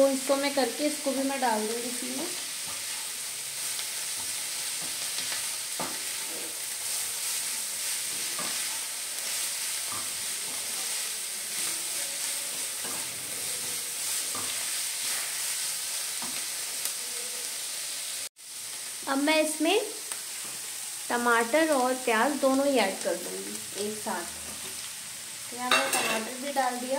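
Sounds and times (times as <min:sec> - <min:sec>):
cabbage sizzling in a pan: 0:00.0 - 0:26.9.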